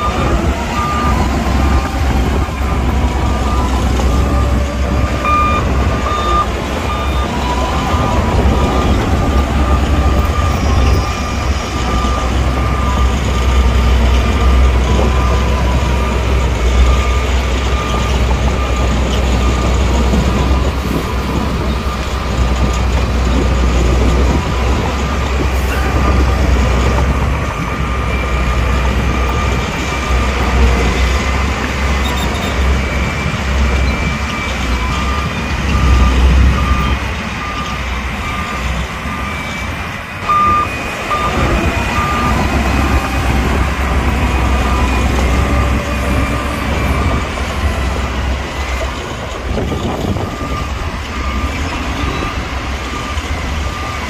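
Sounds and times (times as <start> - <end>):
diesel engine rumbling: 0.0 - 54.0
reversing alarm beeping: 0.0 - 54.0.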